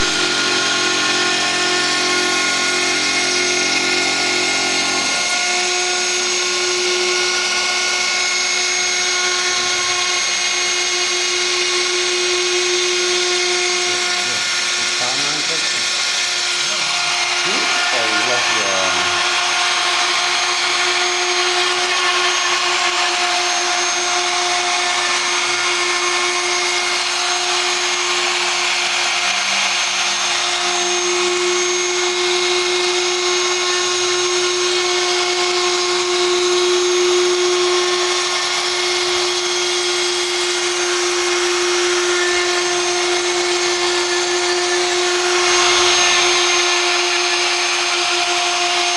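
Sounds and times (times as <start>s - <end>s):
router spindle whine: 0.0s - 48.9s.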